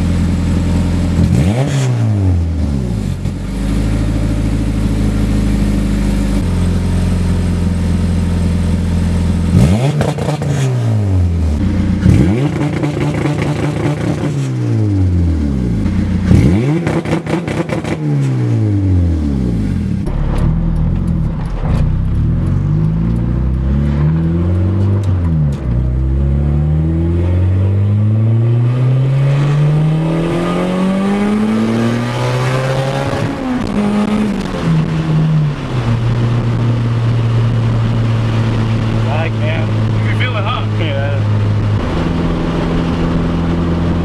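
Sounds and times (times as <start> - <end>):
turbocharged car engine accelerating: 0.0 - 44.0.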